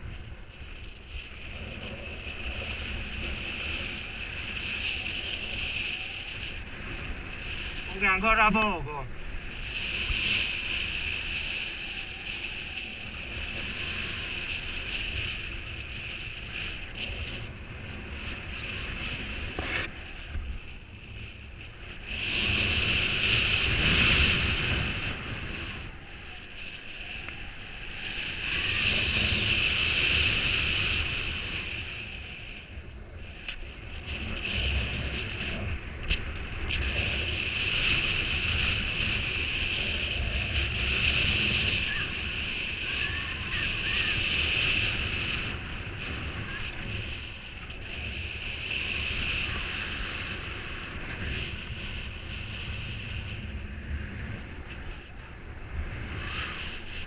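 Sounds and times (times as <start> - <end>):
strong wind on microphone: 0.0 - 57.0.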